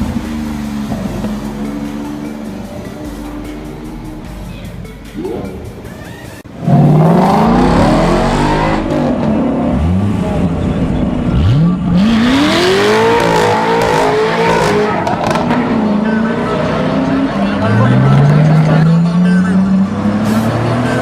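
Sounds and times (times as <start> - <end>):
sports car engine accelerating: 0.0 - 5.9, 6.5 - 21.0.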